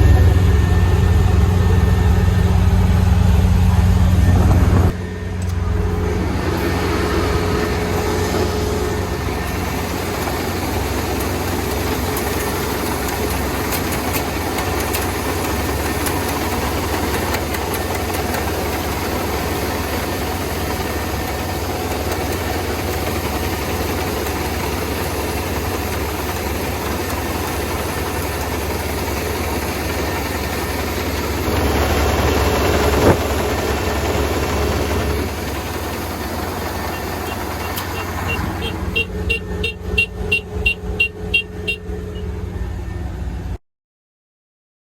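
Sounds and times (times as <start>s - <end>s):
harvester engine running: 0.0s - 43.6s.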